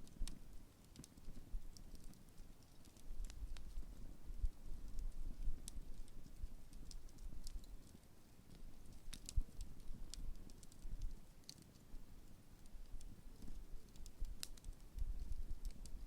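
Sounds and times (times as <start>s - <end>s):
bonfire crackling and popping: 0.0s - 16.0s
low fire rumble: 0.0s - 16.0s.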